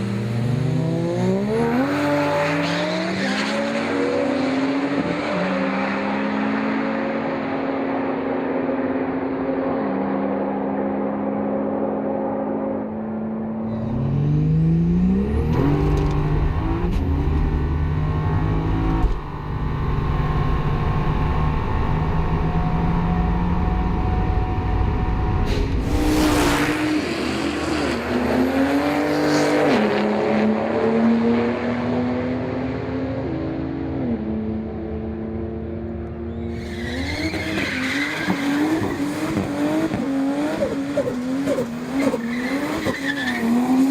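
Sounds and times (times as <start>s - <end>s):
car engine revving: 0.0s - 7.3s, 11.7s - 43.9s.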